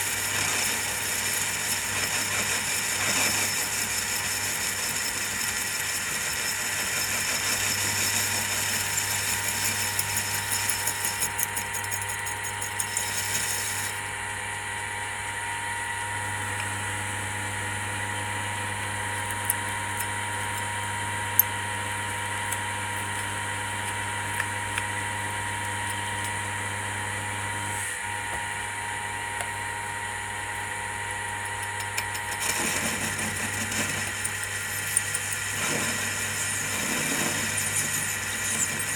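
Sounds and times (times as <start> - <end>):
lathe motor hum and whine: 0.0 - 38.9.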